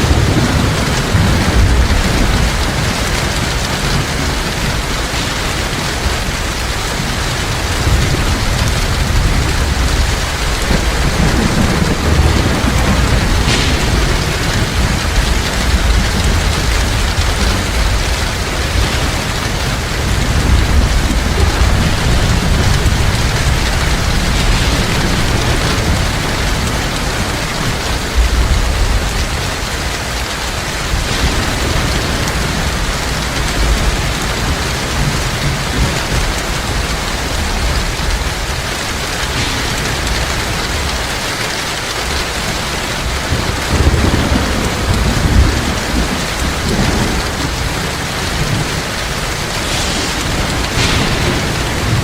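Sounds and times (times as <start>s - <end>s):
heavy rain falling: 0.0s - 52.0s
low thunder rumbling: 0.0s - 52.0s.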